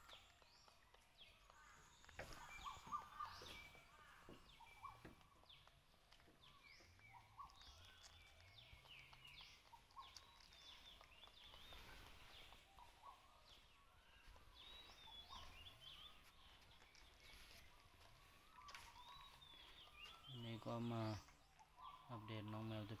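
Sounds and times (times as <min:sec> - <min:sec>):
high bird chirps: 0:01.2 - 0:05.8, 0:06.5 - 0:22.8.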